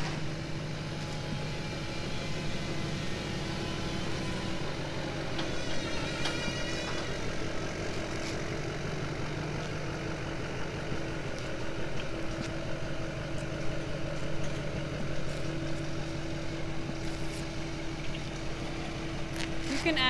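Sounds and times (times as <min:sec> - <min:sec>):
truck engine running at low revs: 0:00.0 - 0:20.0.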